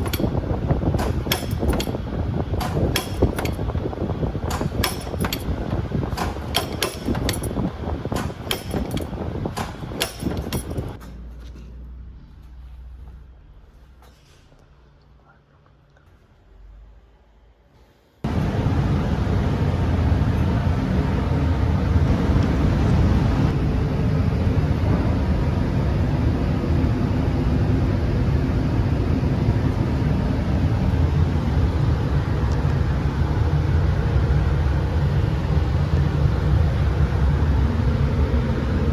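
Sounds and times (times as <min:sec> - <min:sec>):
vehicle rumble: 0:00.0 - 0:17.6, 0:18.2 - 0:38.9.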